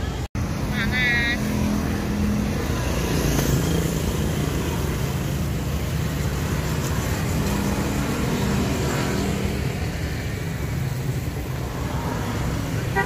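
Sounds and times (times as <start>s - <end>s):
motorbikes and scooters passing: 0.0s - 13.0s
road noise: 0.0s - 13.0s.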